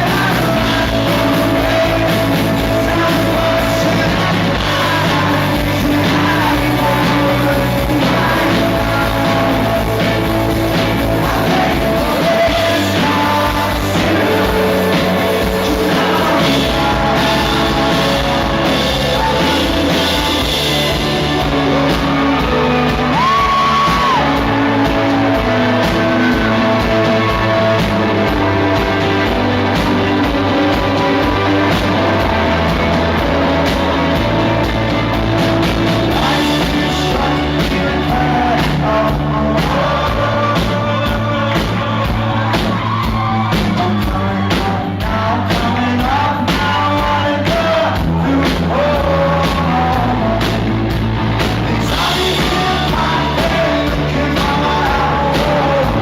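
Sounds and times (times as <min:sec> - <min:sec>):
lead singer singing: 0:00.0 - 0:56.0
rock band playing live: 0:00.0 - 0:56.0.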